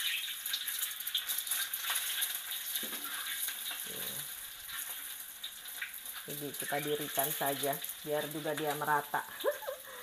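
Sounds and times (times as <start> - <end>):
eggs sizzling in hot oil: 0.0 - 10.0.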